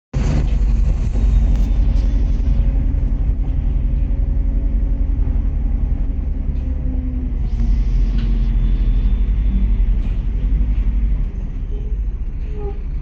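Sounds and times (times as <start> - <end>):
bus engine and road rumble: 0.1 - 13.0.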